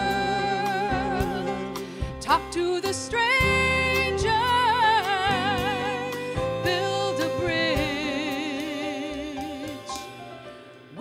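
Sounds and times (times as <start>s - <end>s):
woman singing with vibrato: 0.0s - 10.2s
small band with upright bass: 0.0s - 11.0s.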